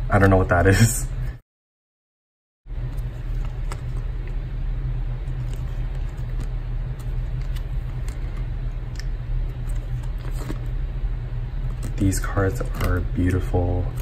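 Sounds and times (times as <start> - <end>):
steady low rumble: 2.7 - 14.0.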